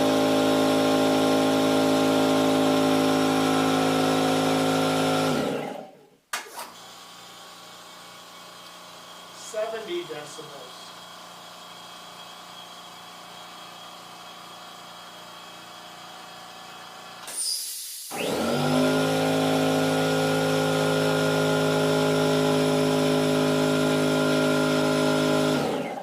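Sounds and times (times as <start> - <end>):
air compressor motor humming: 0.0 - 5.8, 6.8 - 26.0.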